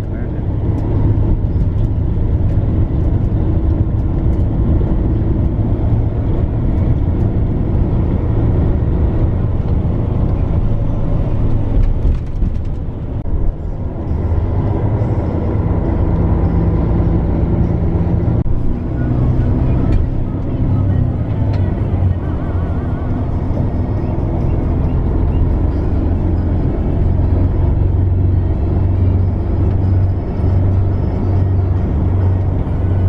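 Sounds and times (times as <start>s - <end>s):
bus engine and road noise: 0.0s - 33.0s.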